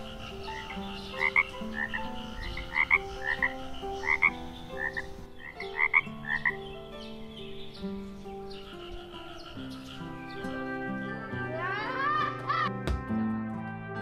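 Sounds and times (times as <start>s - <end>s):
frogs croaking: 0.0s - 12.1s
soft music of held notes: 0.0s - 14.0s.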